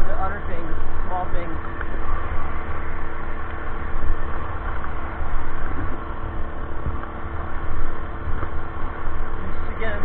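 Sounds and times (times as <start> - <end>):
small generator engine running: 0.0 - 10.0
wind on microphone: 0.0 - 10.0.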